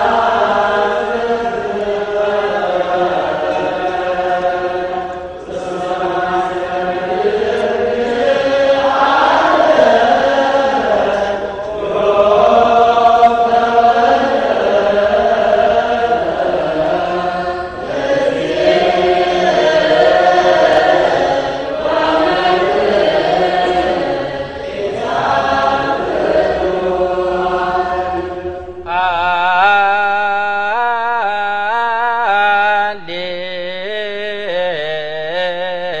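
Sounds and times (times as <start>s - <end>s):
choir chanting a hymn: 0.0s - 36.0s.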